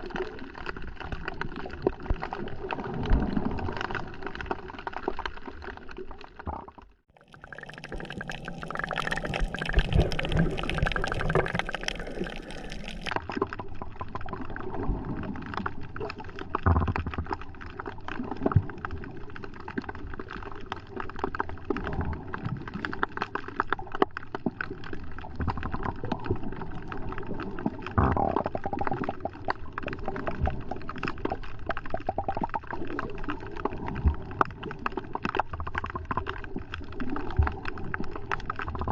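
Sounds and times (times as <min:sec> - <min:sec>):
crackle of small clicks: 0:00.0 - 0:07.0, 0:08.0 - 0:38.9
water sloshing and gurgling: 0:00.0 - 0:38.9.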